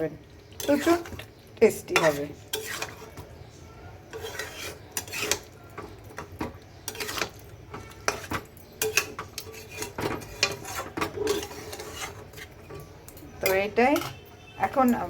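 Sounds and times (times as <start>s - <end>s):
spoon scraping a pan: 0.4s - 15.0s.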